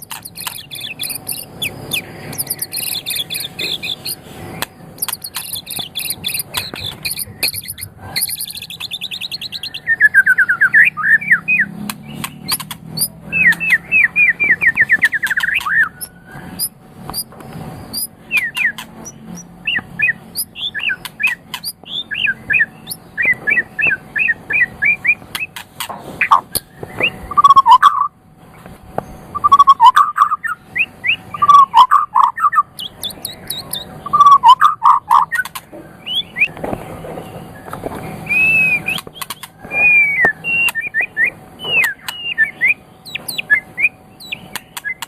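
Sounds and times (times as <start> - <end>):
songbird singing varied song: 0.0 - 25.6, 26.2 - 28.1, 29.0 - 45.0.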